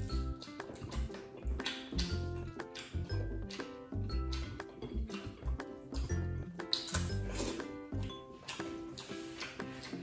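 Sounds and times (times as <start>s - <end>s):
music with steady low beat: 0.0s - 10.0s.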